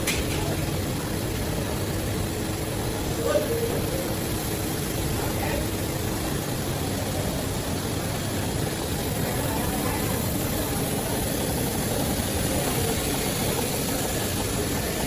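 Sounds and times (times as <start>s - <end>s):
laser cutter rumble and hiss: 0.0s - 15.0s.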